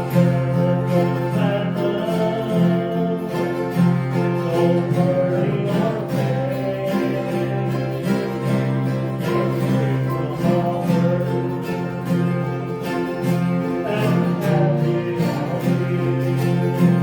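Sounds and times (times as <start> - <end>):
acoustic guitar: 0.0 - 17.0
person singing: 0.0 - 17.0.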